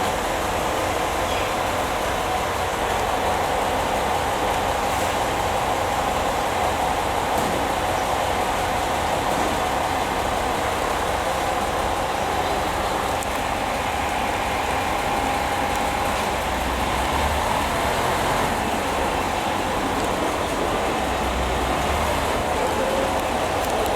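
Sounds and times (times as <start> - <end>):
train running noise: 0.0 - 23.9.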